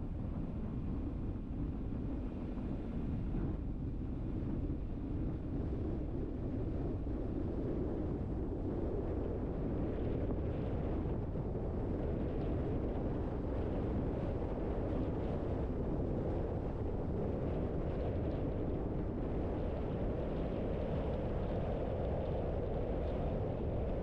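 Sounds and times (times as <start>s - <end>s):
wind noise: 0.0s - 24.0s.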